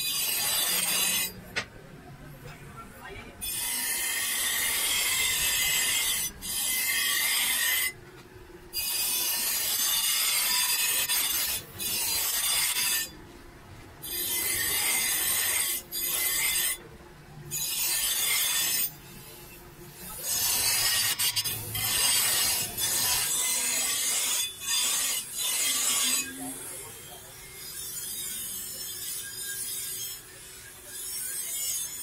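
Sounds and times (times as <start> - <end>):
cleaver on bench grinder: 0.0 - 1.5, 3.4 - 8.0, 8.8 - 13.2, 14.0 - 16.9, 17.6 - 32.0.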